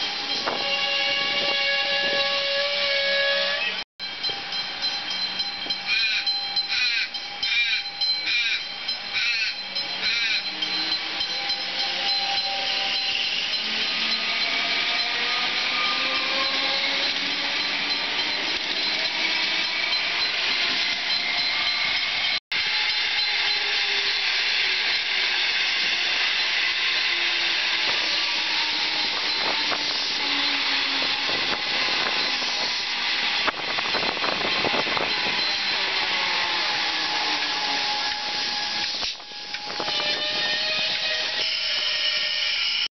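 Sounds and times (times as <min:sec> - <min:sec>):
electric train motors whining: 0:00.0 - 0:42.9
wheel and rail noise: 0:00.0 - 0:42.9.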